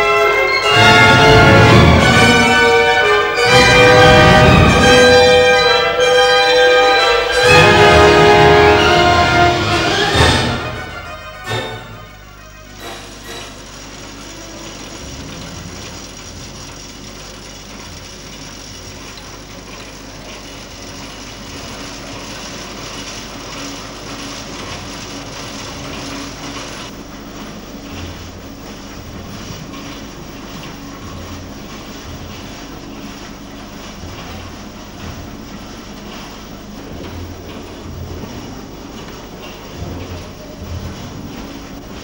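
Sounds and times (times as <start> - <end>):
textile machinery clattering: 0.0 - 42.0.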